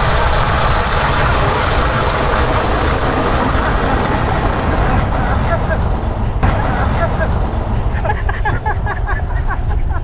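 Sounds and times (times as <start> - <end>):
car driving road noise: 0.0 - 10.0.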